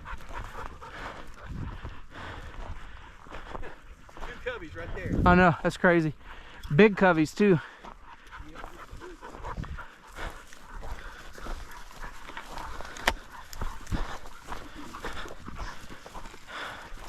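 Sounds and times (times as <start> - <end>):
dog panting: 0.0 - 17.0.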